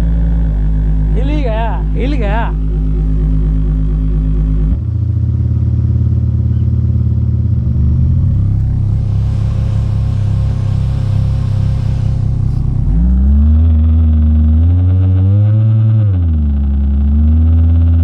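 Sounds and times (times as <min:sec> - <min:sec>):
speaker buzzing rattle: 0:00.0 - 0:15.3
deep bass through speakers: 0:00.0 - 0:18.0.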